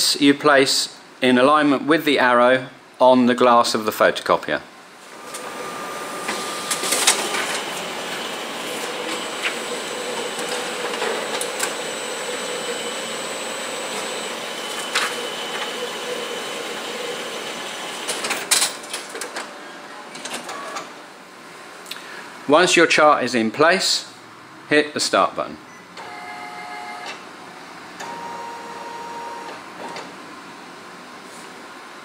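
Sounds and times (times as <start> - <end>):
copier mechanical hum: 0.0 - 32.0.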